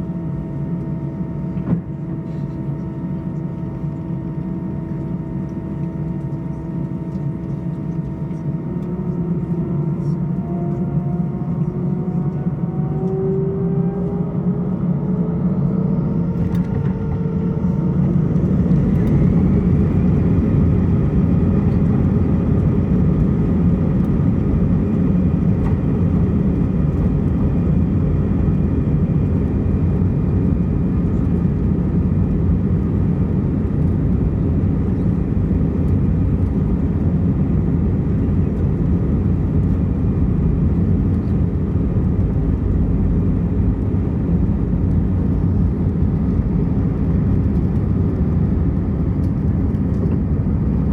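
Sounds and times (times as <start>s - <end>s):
jet engines whining in cabin: 0.0s - 50.9s.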